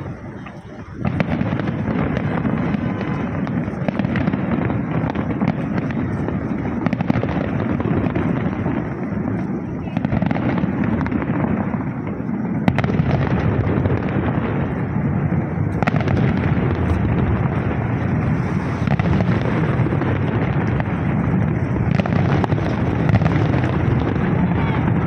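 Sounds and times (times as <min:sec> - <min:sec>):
fireworks rumble of bangs: 0:00.0 - 0:25.0
sharp firework cracks: 0:00.0 - 0:25.0.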